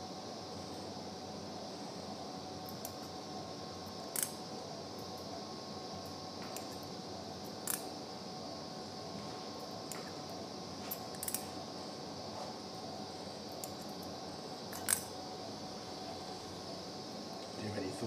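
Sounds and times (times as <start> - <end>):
operating room hum: 0.0 - 18.0.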